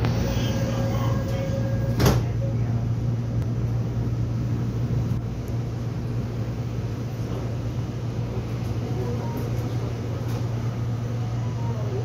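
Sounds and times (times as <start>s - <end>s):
subway train hum and rumble: 0.0s - 12.0s.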